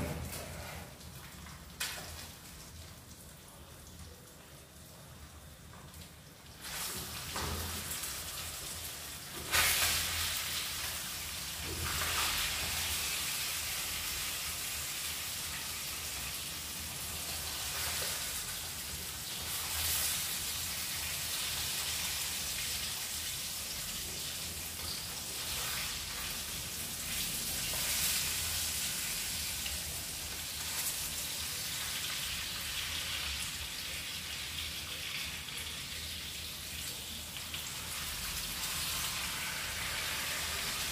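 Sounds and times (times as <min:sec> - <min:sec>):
fish sizzling in a pan: 0:06.6 - 0:40.9.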